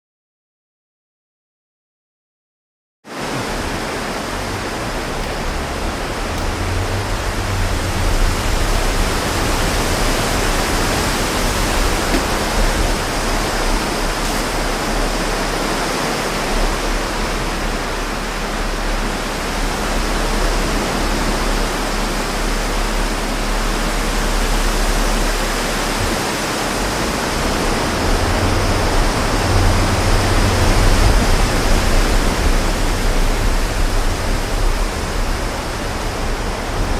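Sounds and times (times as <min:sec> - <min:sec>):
strong wind on microphone: 0:03.2 - 0:36.9.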